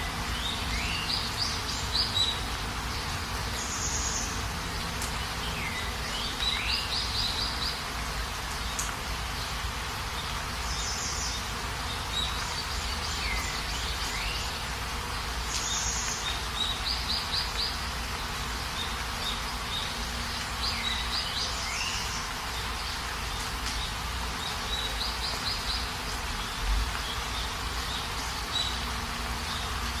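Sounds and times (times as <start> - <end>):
birds chirping and trilling: 0.0 - 30.0
steady rain hiss: 0.0 - 30.0.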